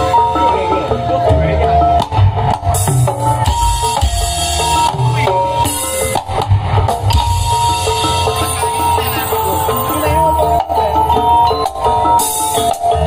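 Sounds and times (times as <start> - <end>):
gamelan ensemble with keyboard: 0.0 - 13.0.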